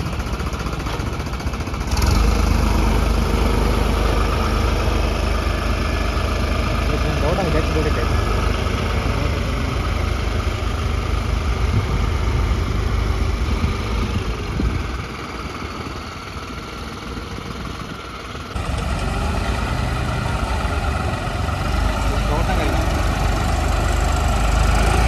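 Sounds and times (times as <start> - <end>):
diesel tractor engines humming: 0.0 - 25.0.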